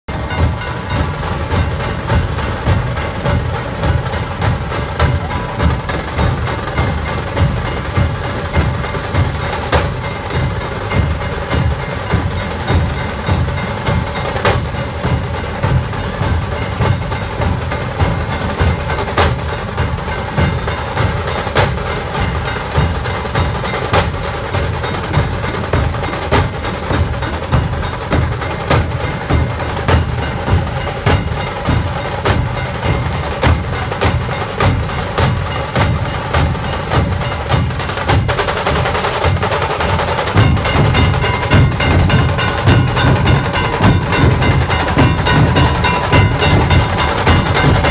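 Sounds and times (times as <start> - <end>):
barrel drums beating: 0.1 - 47.9
drums rattling sharply: 0.1 - 47.9.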